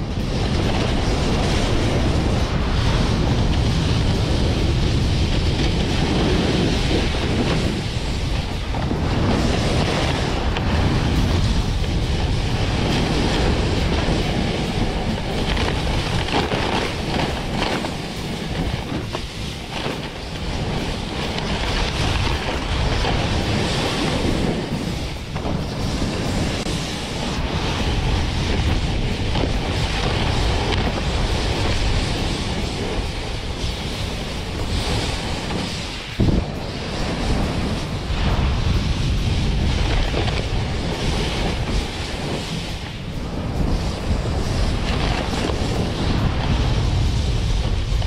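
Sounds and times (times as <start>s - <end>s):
board scraping on snow: 0.0s - 48.0s
wind buffeting microphone: 0.0s - 48.0s.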